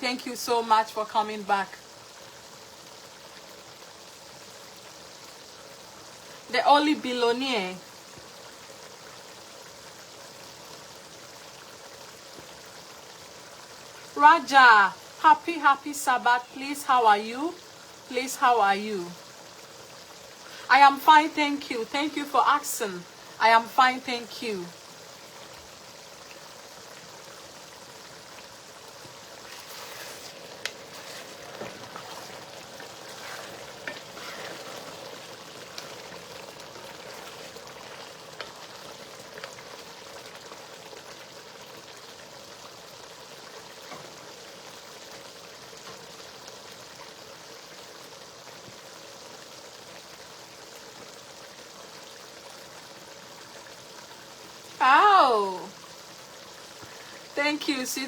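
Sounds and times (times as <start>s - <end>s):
stew sizzling in oil: 0.0s - 58.0s.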